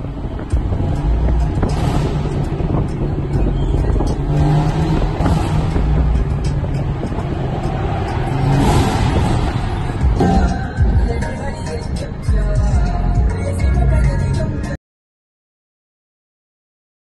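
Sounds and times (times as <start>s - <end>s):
car engine and road noise: 0.0s - 14.8s
music playing: 0.0s - 14.8s.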